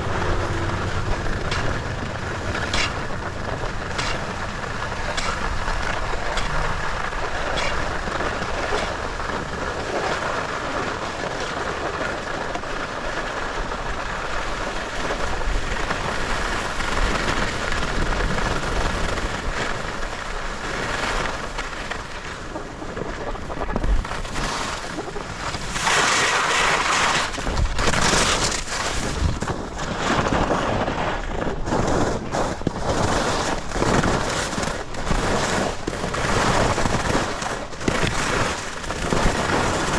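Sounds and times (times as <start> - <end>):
skis sliding on packed snow: 0.0 - 39.9
wind rushing over microphone: 0.0 - 39.9.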